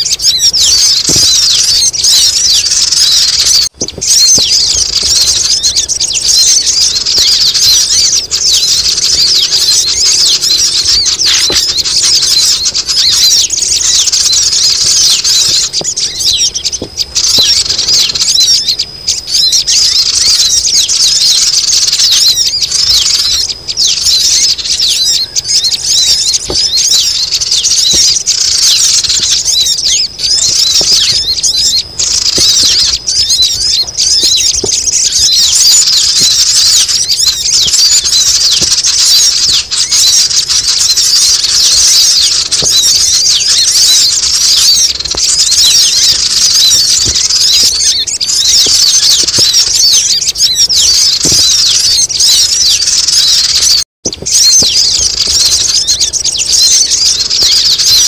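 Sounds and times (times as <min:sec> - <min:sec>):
squeaky chattering bird calls: 0:00.0 - 0:58.0.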